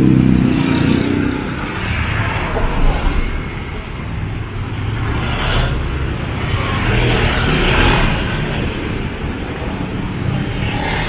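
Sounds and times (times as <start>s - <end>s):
vehicles passing close by: 0.0s - 11.0s.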